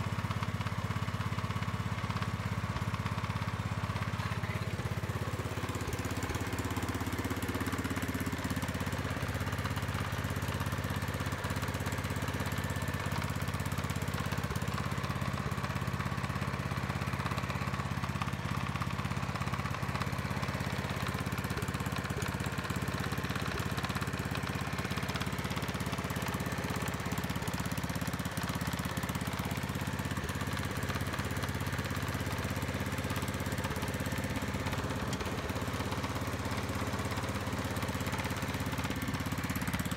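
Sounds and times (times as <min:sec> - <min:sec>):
rotavator engine running: 0:00.0 - 0:39.9.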